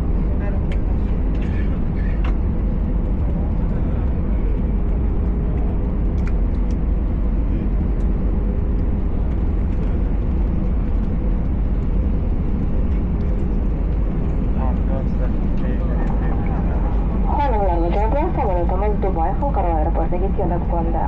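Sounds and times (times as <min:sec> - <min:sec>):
airplane cabin engine rumble: 0:00.0 - 0:21.0
steady whine tone: 0:00.0 - 0:21.0.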